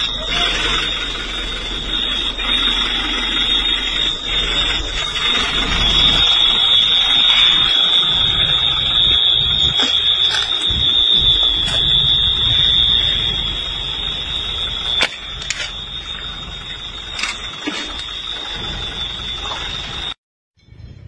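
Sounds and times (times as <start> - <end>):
high-pitched electronic alarm tone: 0.0 - 20.2
low rumbling noise: 0.0 - 21.0.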